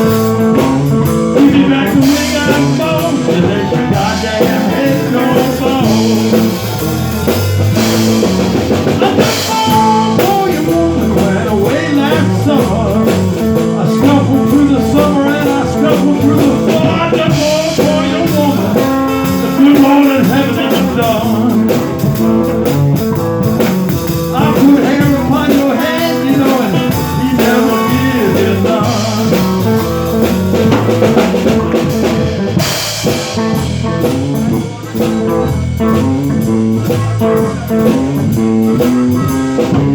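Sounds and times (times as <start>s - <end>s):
blues guitar: 0.0s - 39.9s
drum kit steady beat: 0.0s - 39.9s.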